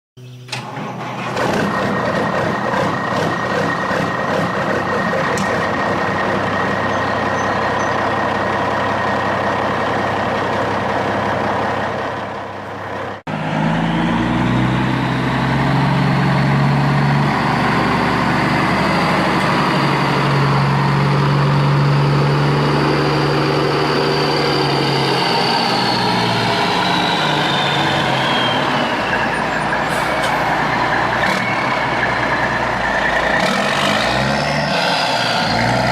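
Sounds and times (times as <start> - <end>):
high engine whine: 0.2 - 35.9
truck engine running: 0.2 - 35.9.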